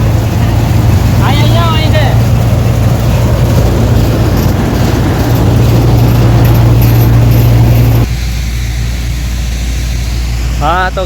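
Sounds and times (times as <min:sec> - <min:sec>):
diesel engine of farm machinery: 0:00.0 - 0:11.0.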